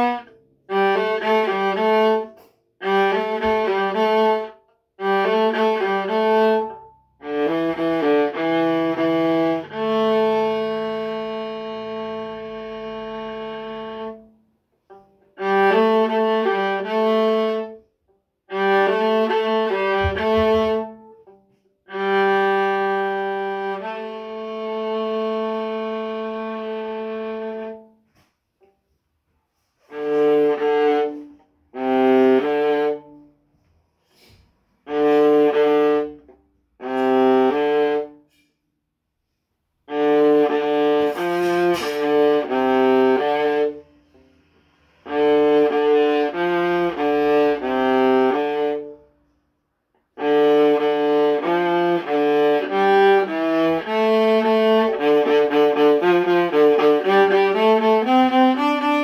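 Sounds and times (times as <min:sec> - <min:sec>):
solo viola bowing: 0:00.0 - 0:28.8, 0:29.5 - 0:33.4, 0:34.0 - 0:38.5, 0:39.8 - 0:49.3, 0:50.1 - 0:59.0.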